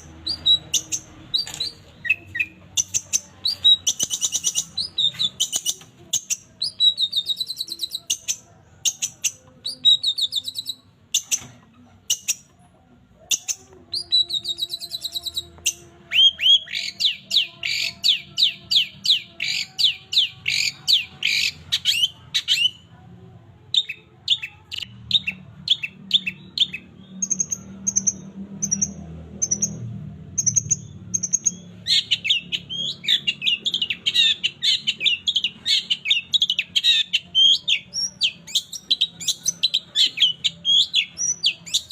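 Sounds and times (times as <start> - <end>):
shrike singing mimicking song: 0.0 - 12.5, 13.2 - 23.0, 23.7 - 41.9.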